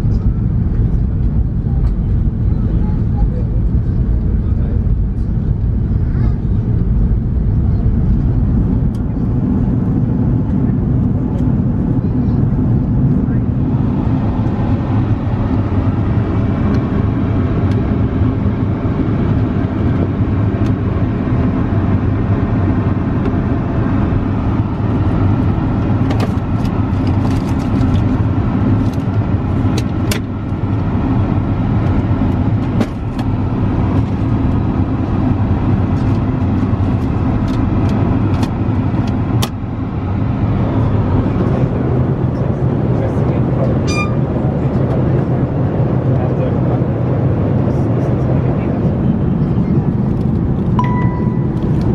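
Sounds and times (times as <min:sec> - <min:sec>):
airplane cabin drone: 0:00.0 - 0:51.9.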